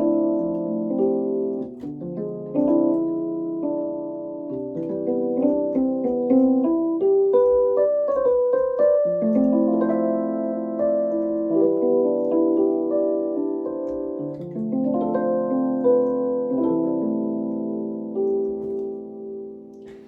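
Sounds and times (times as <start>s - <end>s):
electric piano chords: 0.0s - 20.0s.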